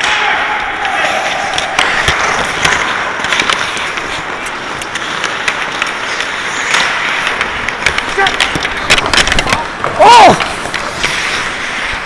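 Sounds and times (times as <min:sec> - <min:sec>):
skate blades scraping ice: 0:00.0 - 0:12.0
sticks clacking on ice and puck: 0:00.0 - 0:12.0.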